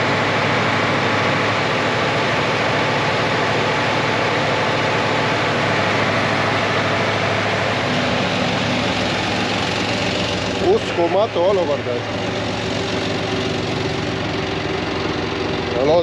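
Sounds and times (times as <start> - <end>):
heavy truck diesel engine running: 0.0 - 16.0.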